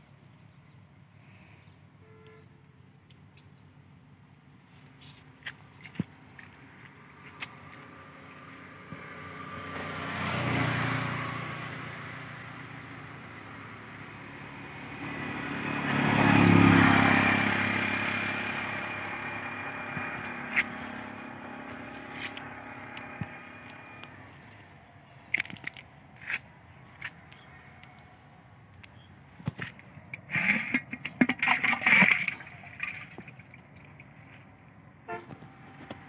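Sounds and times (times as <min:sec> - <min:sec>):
motor vehicles passing by: 0:05.0 - 0:36.0.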